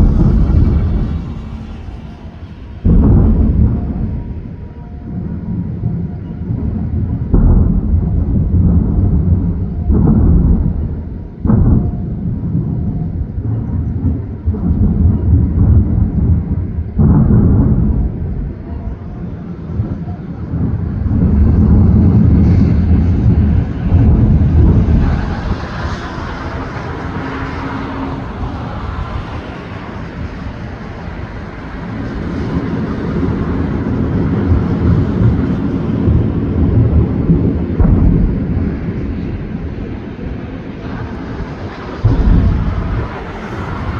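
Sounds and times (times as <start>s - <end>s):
fireworks booming: 0.0s - 43.9s
steady rolling rumble: 0.0s - 43.9s.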